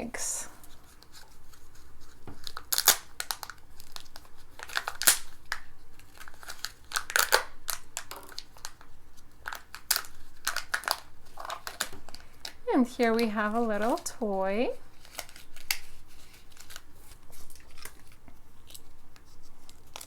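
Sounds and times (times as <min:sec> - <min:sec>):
foil wrapper tearing and crinkling: 0:00.6 - 0:20.0.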